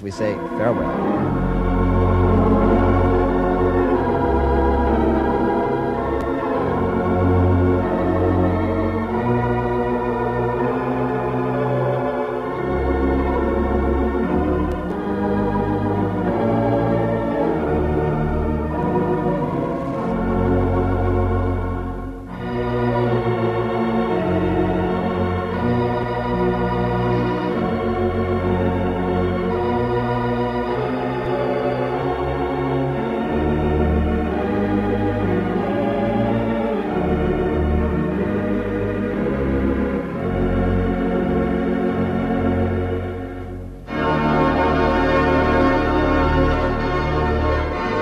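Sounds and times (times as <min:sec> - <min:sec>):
deep organ pedal bass: 0:00.0 - 0:48.0
pipe organ chords: 0:00.0 - 0:48.0.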